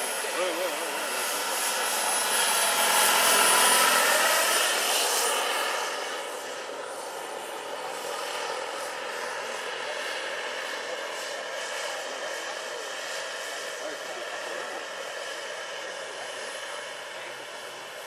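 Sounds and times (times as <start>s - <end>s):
model helicopter turbine whine: 0.0s - 18.0s.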